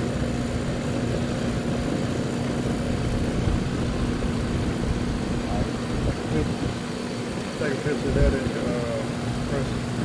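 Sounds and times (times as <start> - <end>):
air conditioner unit running: 0.0 - 10.0.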